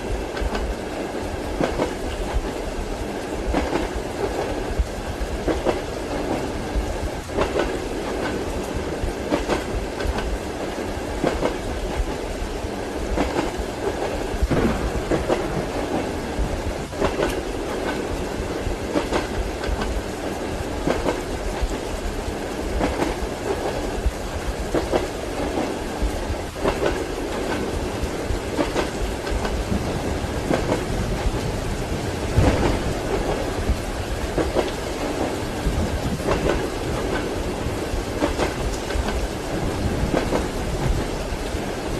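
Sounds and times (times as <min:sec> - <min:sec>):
rain hissing: 0:00.0 - 0:41.9
train wheels clacking over joints: 0:03.4 - 0:12.3, 0:13.1 - 0:20.2, 0:20.8 - 0:22.0, 0:22.6 - 0:31.5, 0:32.3 - 0:41.8.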